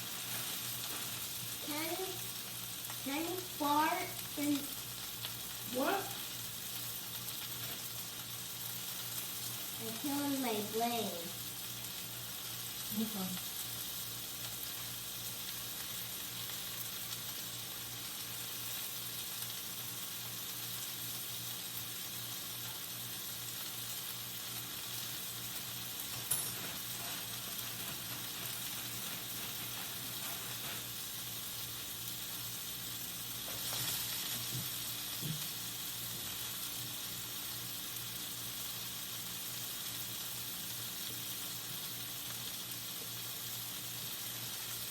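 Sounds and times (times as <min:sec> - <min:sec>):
food sizzling in a pan: 0:00.0 - 0:44.9.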